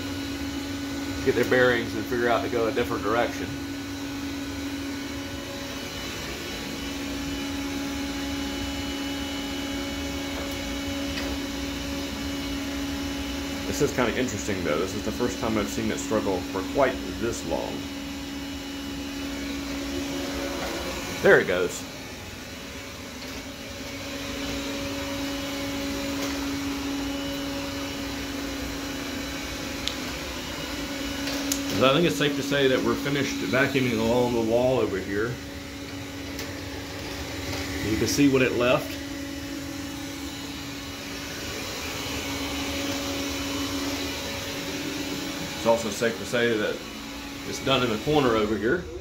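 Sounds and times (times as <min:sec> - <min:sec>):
robot vacuum humming: 0:00.0 - 0:49.0.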